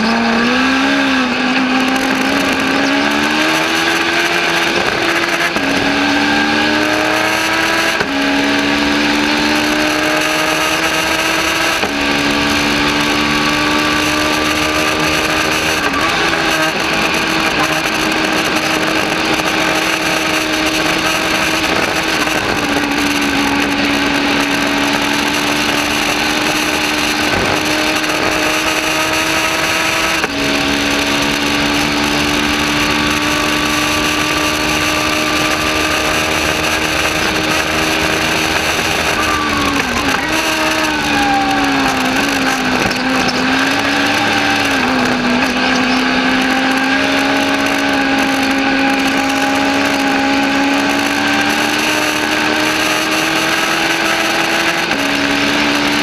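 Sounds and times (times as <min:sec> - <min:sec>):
motorcycle engine running hard: 0:00.0 - 0:56.0
road and wind noise: 0:00.0 - 0:56.0.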